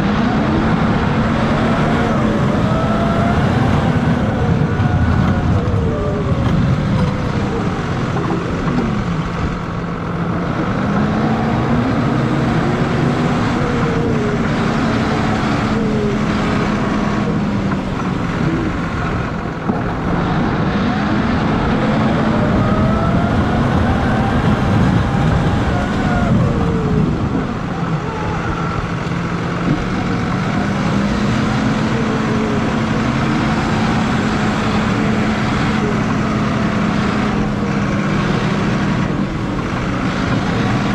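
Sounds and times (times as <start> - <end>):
rising and falling whine: 0.0 - 40.9
tractor diesel engine running: 0.0 - 40.9.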